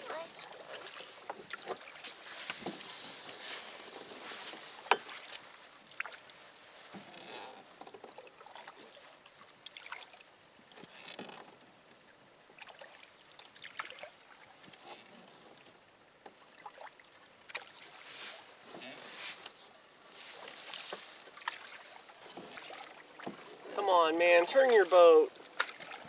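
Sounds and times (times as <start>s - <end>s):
paddle splashes: 0.0s - 11.6s, 12.4s - 26.0s.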